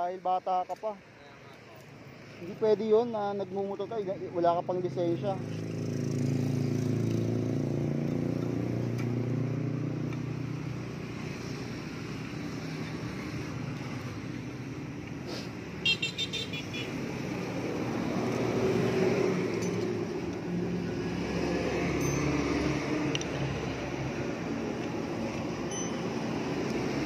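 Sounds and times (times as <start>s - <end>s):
vehicle engine hum: 2.0s - 27.0s.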